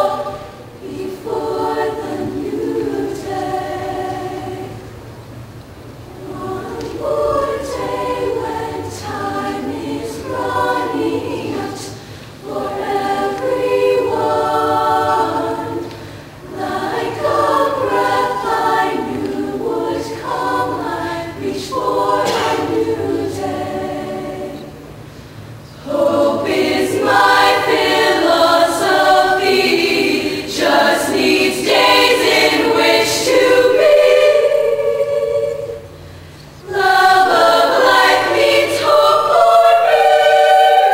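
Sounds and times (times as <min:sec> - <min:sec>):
choir singing a cappella: 0:00.0 - 0:05.2, 0:06.0 - 0:40.9.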